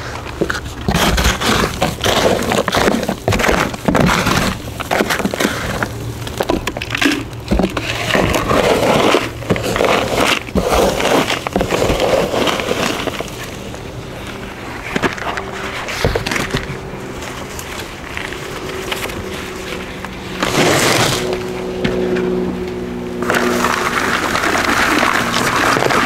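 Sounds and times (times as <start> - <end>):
potting mix crunching: 0.0 - 26.0.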